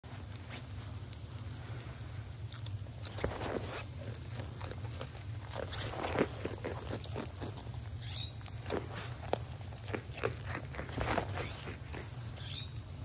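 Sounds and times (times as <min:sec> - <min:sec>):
goats crunching cookies: 0:00.1 - 0:13.0.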